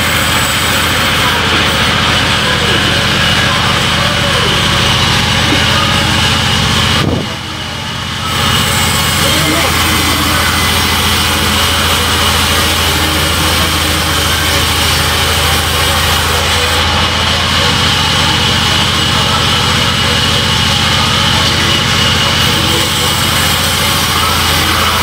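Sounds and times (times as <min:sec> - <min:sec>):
band saw cutting wood: 0:00.0 - 0:25.0.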